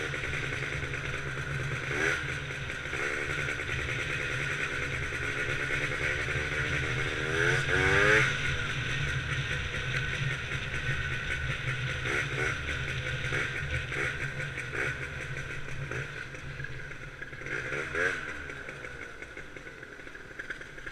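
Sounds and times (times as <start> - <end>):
scooter engine running: 0.0 - 20.9.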